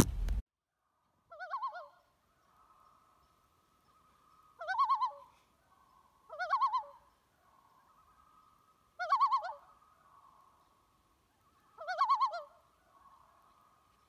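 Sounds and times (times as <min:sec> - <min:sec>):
faint steady tone: 0:00.7 - 0:14.0
bird calls with wavering pitch: 0:01.3 - 0:13.7.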